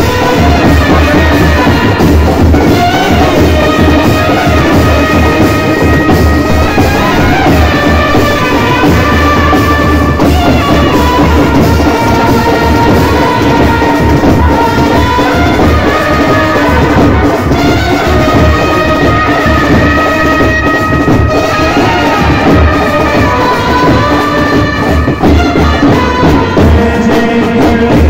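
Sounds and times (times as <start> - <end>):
heavy drum beat: 0.0 - 28.0
street band music: 0.0 - 28.0.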